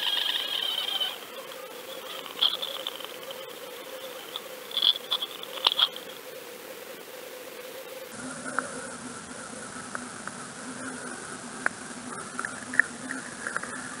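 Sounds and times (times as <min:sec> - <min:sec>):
faint hum: 0:00.0 - 0:14.0
muffled underwater hiss: 0:00.0 - 0:14.0.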